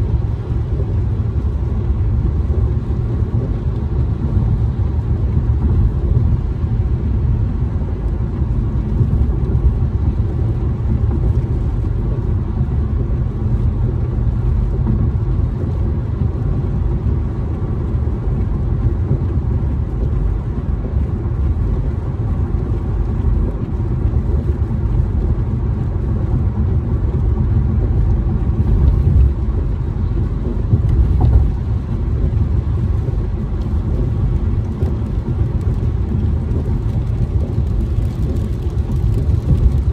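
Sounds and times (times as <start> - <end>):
car engine: 0.0 - 39.9
tyre and road noise: 0.0 - 39.9.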